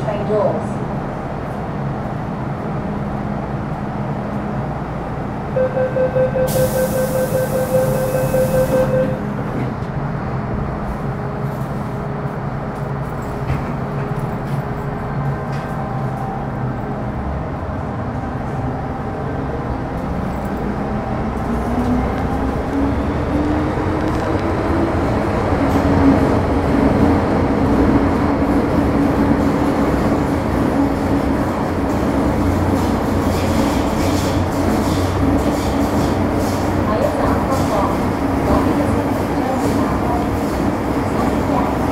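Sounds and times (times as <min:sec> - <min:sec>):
train traction whine: 0:01.0 - 0:41.9
wheel and track rumble: 0:08.0 - 0:41.9.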